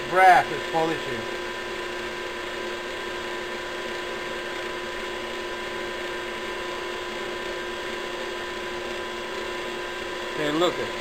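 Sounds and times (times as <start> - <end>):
lathe motor humming with whine: 0.0 - 11.0.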